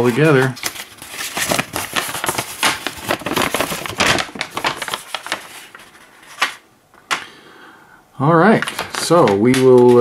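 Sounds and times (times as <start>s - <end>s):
paper rustling and crackling: 0.0s - 7.2s, 8.4s - 10.0s.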